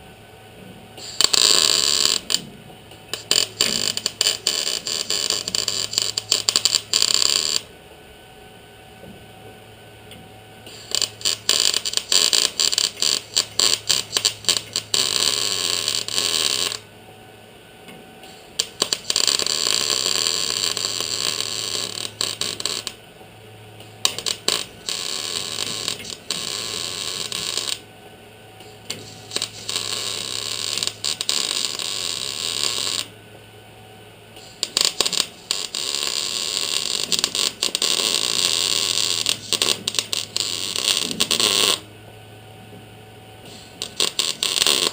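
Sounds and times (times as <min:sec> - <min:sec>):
steady low hum: 0:00.0 - 0:44.9
welder crackling sizzle: 0:00.9 - 0:07.8, 0:10.1 - 0:17.0, 0:18.0 - 0:33.2, 0:34.3 - 0:41.9, 0:43.3 - 0:44.9.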